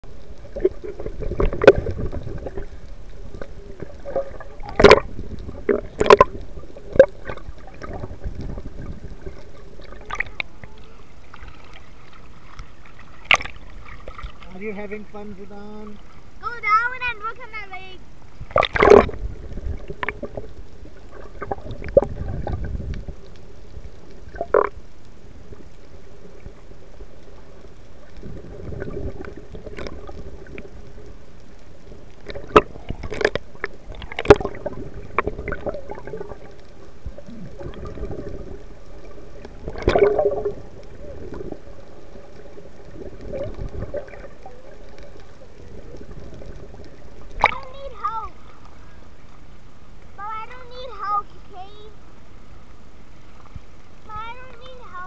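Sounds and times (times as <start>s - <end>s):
faint steady hum: 0.0s - 55.0s
muffled water sloshing and bubbling: 0.0s - 55.0s
water splashes: 0.0s - 55.0s.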